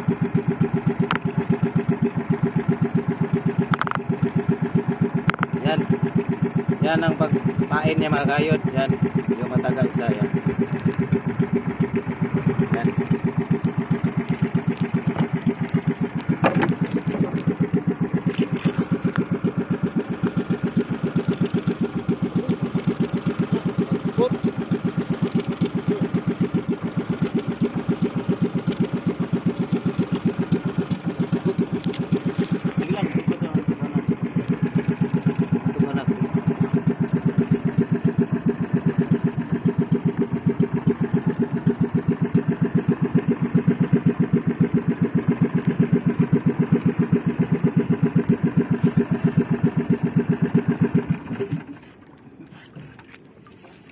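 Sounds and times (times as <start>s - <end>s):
boat engine running: 0.0s - 53.9s.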